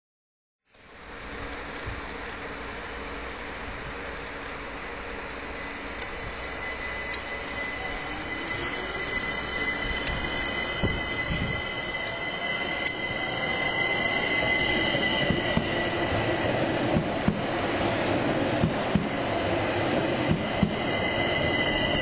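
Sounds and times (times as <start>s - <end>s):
train running noise: 0.8s - 22.0s
high steady squeal: 2.3s - 22.0s.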